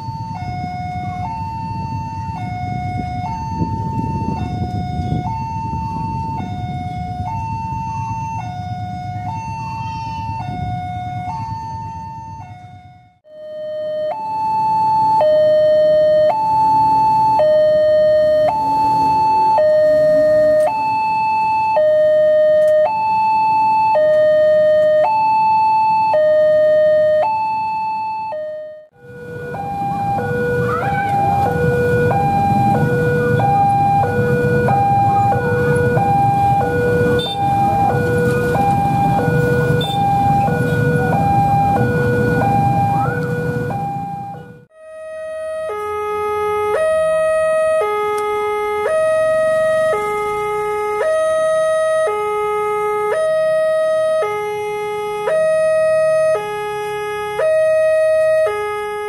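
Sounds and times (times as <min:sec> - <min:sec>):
road traffic noise: 0:00.0 - 0:59.0
two-tone crossing alarm: 0:00.0 - 0:59.0.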